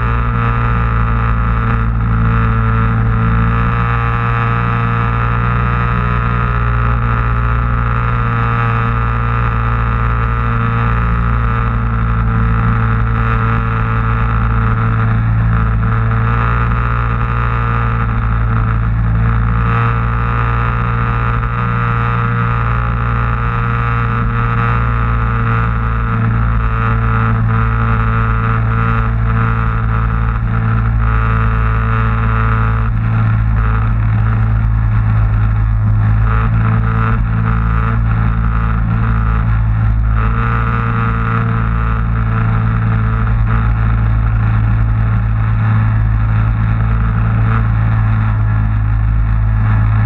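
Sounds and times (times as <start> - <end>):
watercraft engine drone: 0.0 - 50.0.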